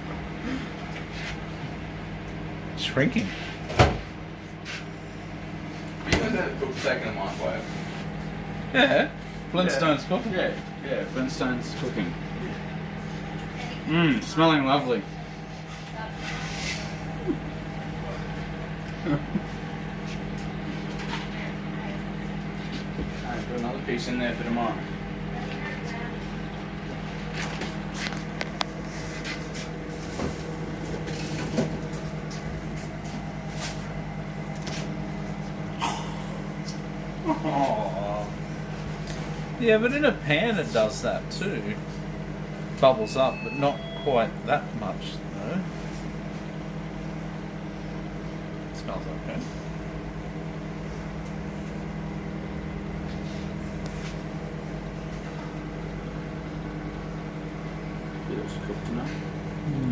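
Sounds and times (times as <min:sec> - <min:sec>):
microwave oven humming: 0:00.0 - 0:59.9.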